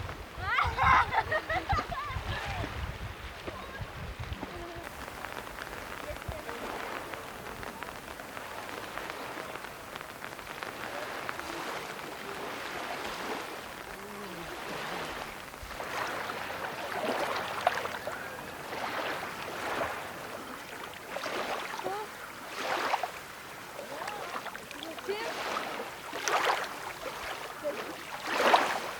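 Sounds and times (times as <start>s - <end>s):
rain hissing: 0.0s - 28.9s
waves washing onto beach: 0.0s - 28.9s.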